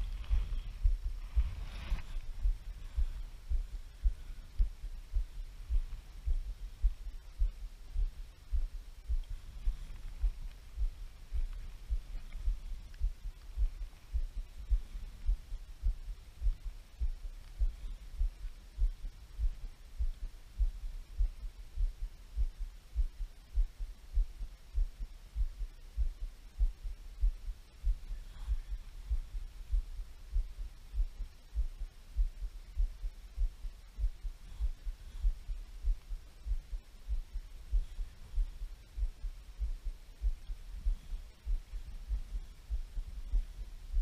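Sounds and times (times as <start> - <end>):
faint hum: 0.0 - 44.0
muffled thumping on microphone: 0.0 - 44.0.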